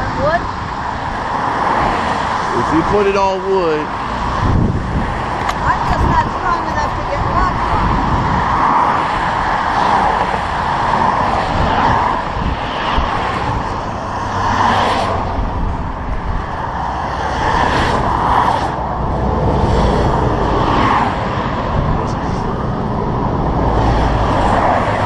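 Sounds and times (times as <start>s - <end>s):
highway traffic passing: 0.0s - 25.0s.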